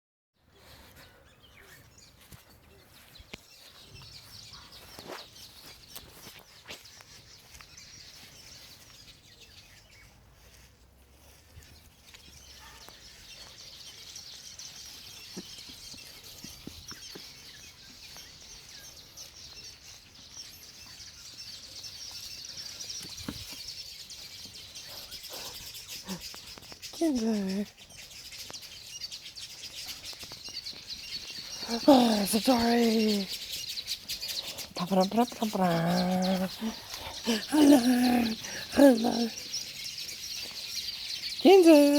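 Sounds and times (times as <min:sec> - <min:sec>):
birds chirping: 0:00.4 - 0:41.9.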